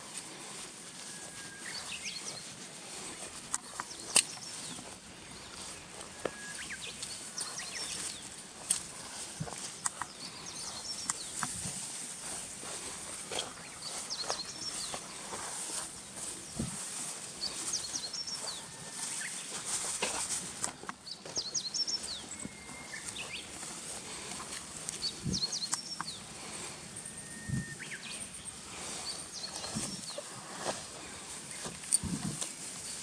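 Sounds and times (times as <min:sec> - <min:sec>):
bird chirping: 0:01.0 - 0:02.5, 0:03.1 - 0:20.0, 0:21.0 - 0:30.4.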